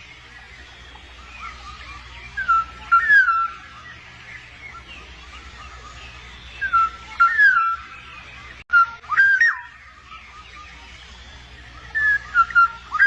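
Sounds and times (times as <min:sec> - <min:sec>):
bird whistling fluty phrases: 0:00.4 - 0:13.0.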